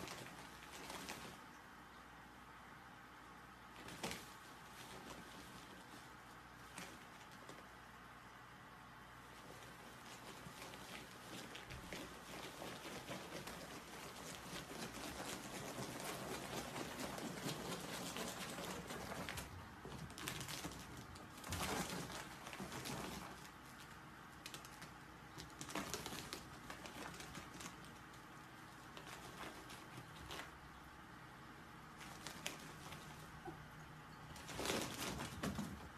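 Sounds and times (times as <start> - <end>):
claws scrabbling on plastic hose: 0.0 - 2.5, 3.4 - 35.9.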